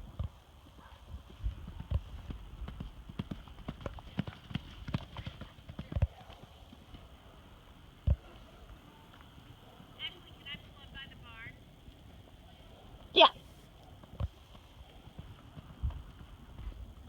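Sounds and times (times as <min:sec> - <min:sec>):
horse hooves clip-clopping: 0:00.0 - 0:17.0.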